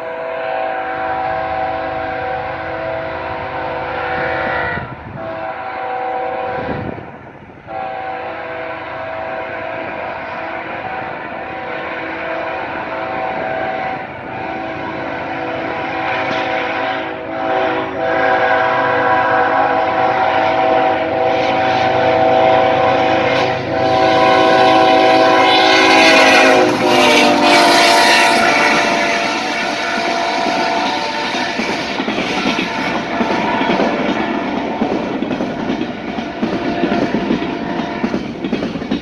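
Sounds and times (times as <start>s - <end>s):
locomotive horn blasts: 0.0s - 7.0s, 7.7s - 35.1s, 36.4s - 38.2s.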